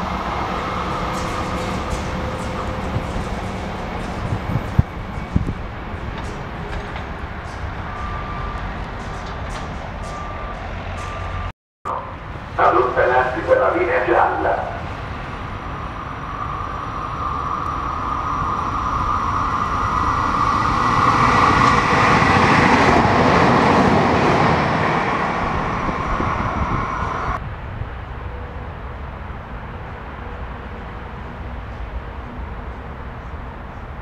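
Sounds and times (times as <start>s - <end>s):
steady train whine: 0.0s - 34.0s
train rumbling past: 0.0s - 34.0s.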